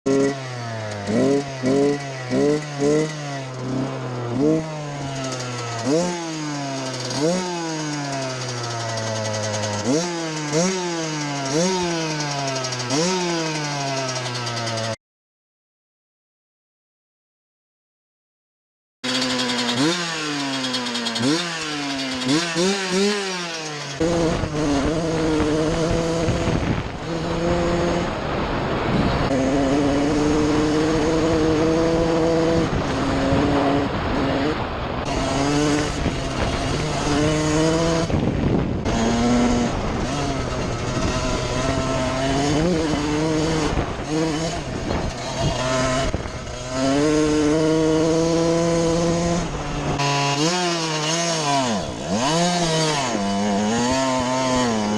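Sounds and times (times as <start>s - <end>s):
two-stroke engine revving: 0.0s - 15.0s, 19.0s - 54.9s.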